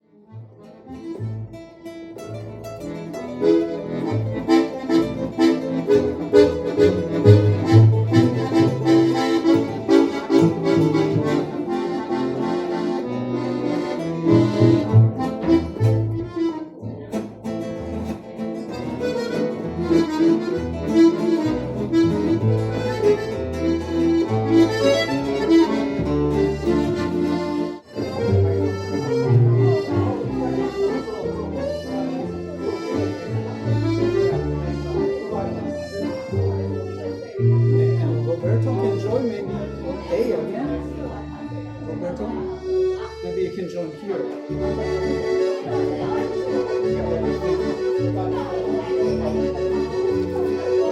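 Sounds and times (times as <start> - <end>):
low bass notes: 0.0 - 43.0, 44.5 - 50.9
live band playing: 0.6 - 50.9.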